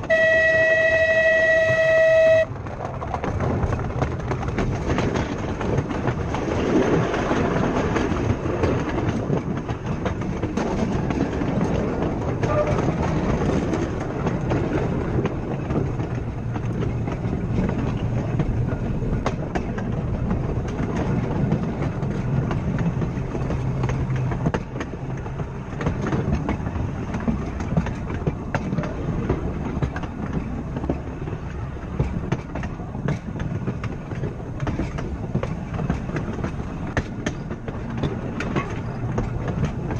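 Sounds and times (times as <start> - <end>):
steel wheels rumbling on rail: 0.0 - 39.9
clicks over rail joints: 2.0 - 39.9.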